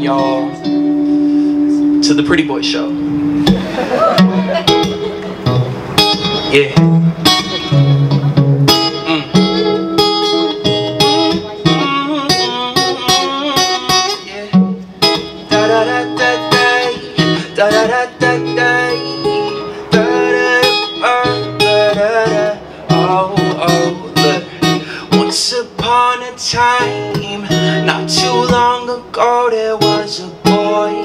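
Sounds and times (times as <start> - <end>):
guitar plucked and strummed: 0.0 - 31.0.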